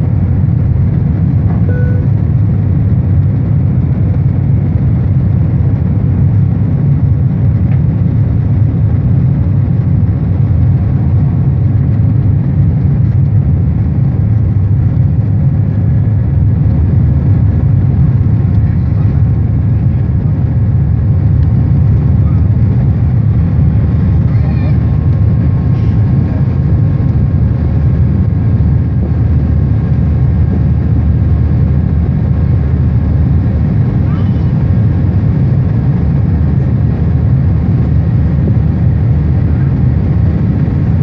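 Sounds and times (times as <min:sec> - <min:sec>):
jet cabin engine drone: 0:00.0 - 0:41.0.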